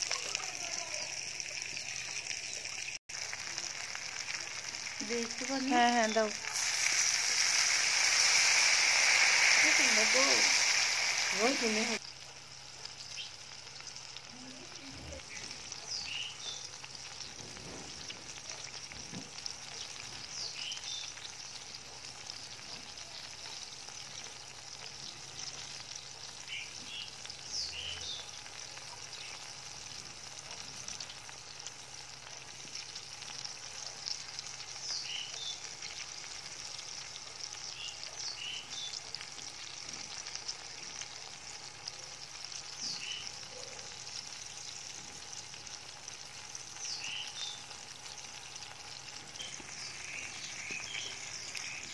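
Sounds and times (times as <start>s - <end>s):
meat sizzling in a wok: 0.0s - 51.9s.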